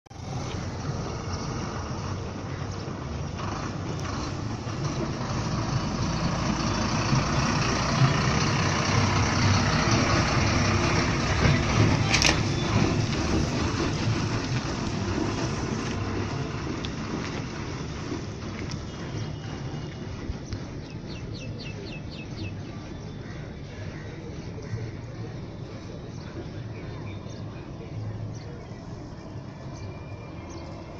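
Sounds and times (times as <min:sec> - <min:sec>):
bus diesel engine passing: 0:00.1 - 0:30.9.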